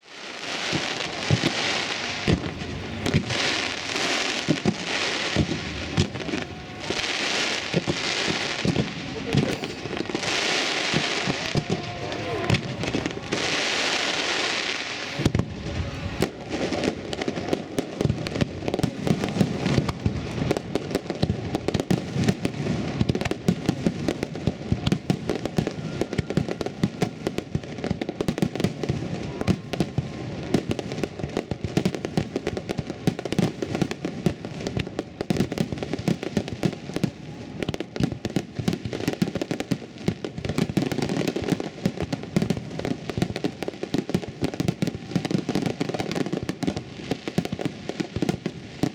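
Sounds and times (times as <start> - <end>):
fireworks bursting: 0.0 - 48.9
fireworks crackling and booming: 0.0 - 48.9.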